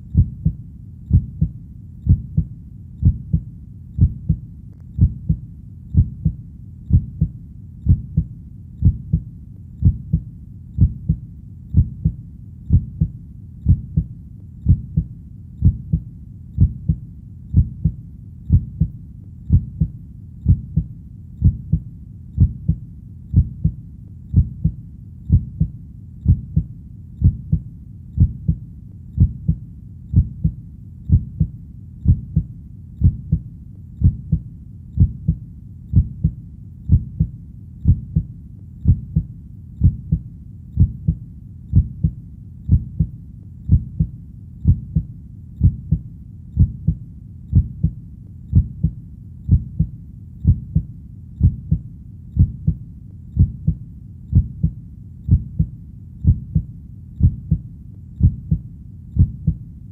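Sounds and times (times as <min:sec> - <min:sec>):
heartbeat thumps: 0:00.0 - 0:59.7.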